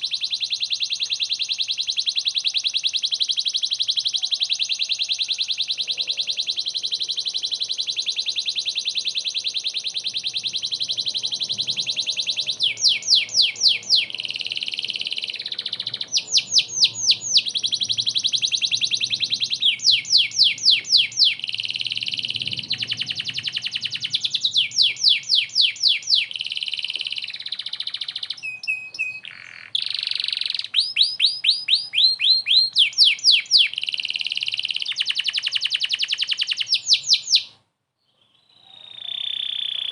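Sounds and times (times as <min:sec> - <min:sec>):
canary singing fast trills: 0:00.0 - 0:39.9.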